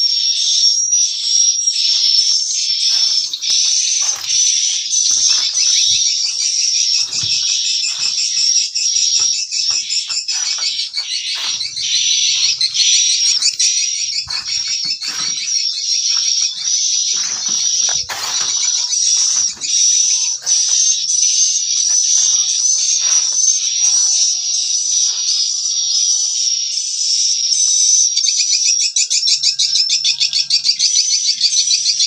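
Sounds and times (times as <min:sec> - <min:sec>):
birds twittering chatter: 0:00.0 - 0:32.0.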